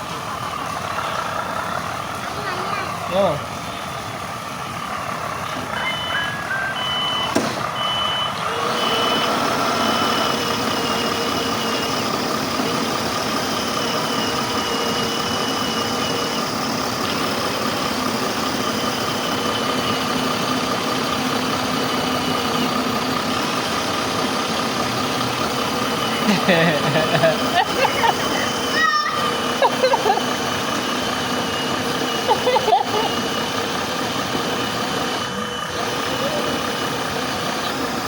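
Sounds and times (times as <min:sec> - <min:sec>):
truck engine running: 0:00.0 - 0:38.0
reversing beeper: 0:03.0 - 0:38.0.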